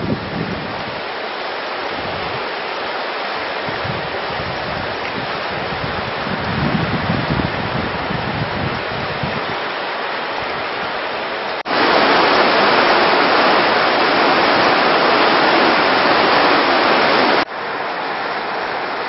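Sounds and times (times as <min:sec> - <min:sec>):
river water rushing over stones: 0:00.0 - 0:06.3, 0:08.8 - 0:19.0.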